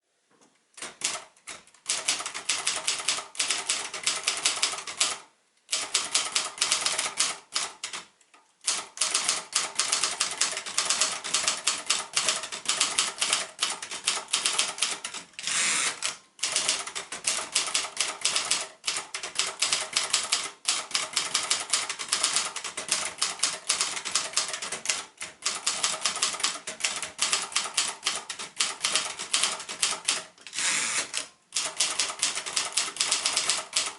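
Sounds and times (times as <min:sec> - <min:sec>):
typewriter rasping: 0:00.8 - 0:08.0, 0:08.7 - 0:33.9
typewriter keystrokes clacking: 0:00.8 - 0:08.1, 0:08.7 - 0:33.9.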